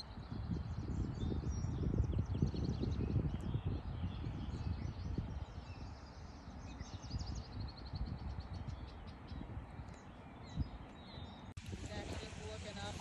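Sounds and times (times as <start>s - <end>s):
small birds singing: 0.0s - 12.8s.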